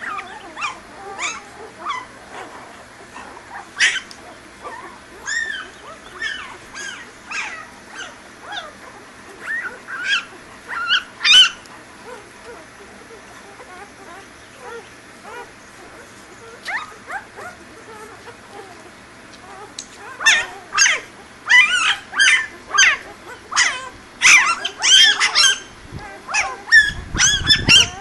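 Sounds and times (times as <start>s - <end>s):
puppies squeaking and whimpering: 0.0s - 28.0s.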